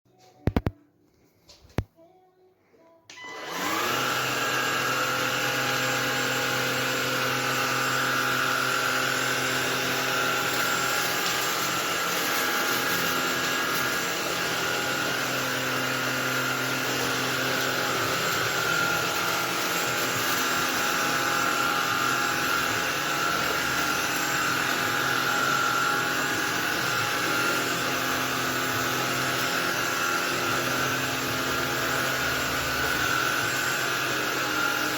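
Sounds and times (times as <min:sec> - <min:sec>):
vacuum motor whining: 0:03.1 - 0:34.9.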